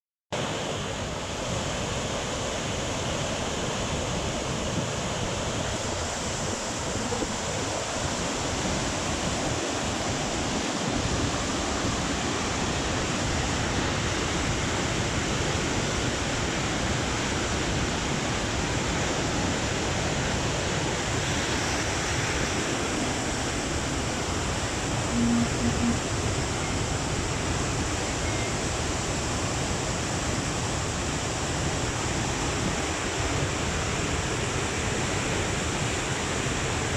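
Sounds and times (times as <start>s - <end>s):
river rushing in flood: 0.4s - 36.9s.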